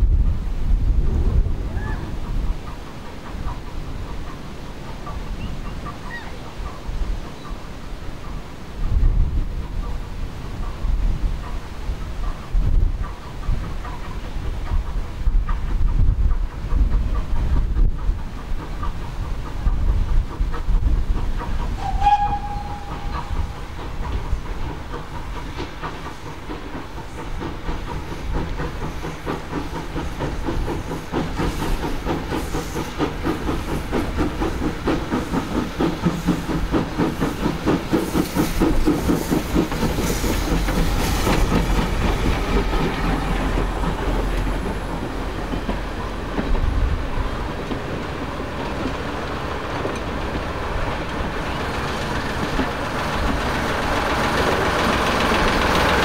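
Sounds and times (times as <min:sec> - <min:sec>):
steam locomotive exhaust beating: 0:00.0 - 0:56.0
wheels clicking over rail joints: 0:10.6 - 0:56.0.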